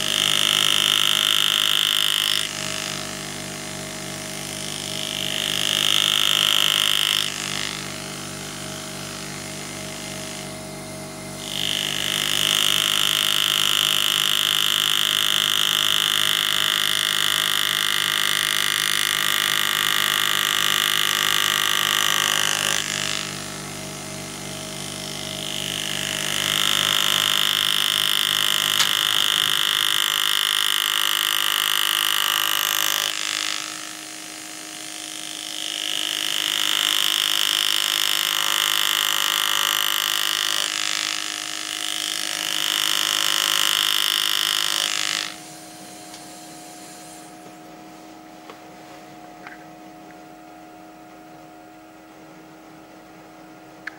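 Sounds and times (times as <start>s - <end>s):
air-powered engraver buzzing: 0.0s - 53.9s.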